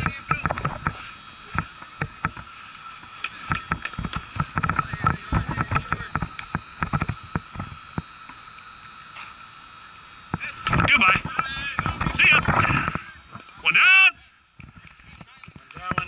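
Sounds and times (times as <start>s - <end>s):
steady high hum: 0.0s - 16.0s.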